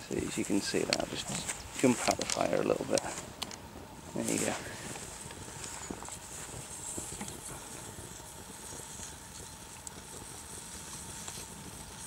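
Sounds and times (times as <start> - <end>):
burning wood crackling: 0.0 - 12.0
kettle water hissing and bubbling: 0.0 - 12.0.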